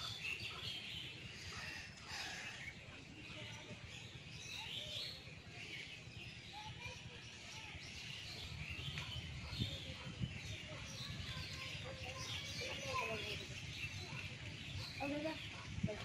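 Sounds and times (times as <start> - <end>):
birds chirping and calling: 0.0 - 16.0.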